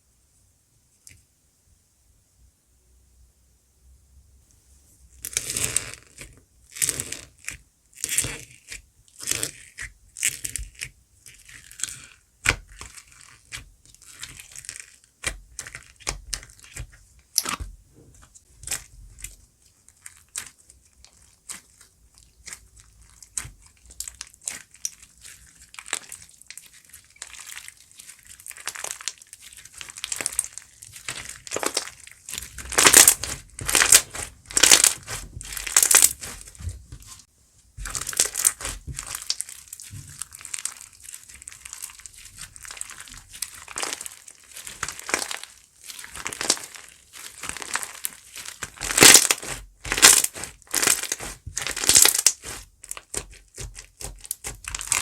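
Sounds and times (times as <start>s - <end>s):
foam slime squishing: 5.2s - 55.0s.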